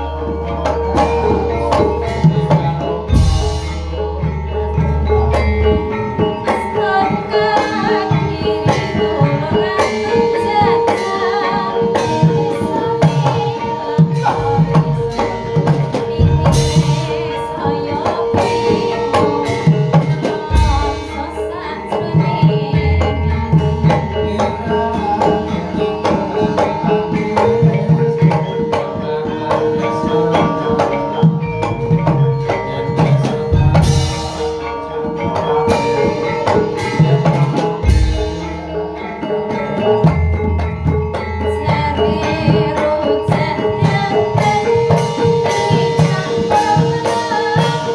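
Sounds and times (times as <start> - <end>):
hand drums beating: 0.0 - 47.9
ringing metal percussion: 0.0 - 47.9.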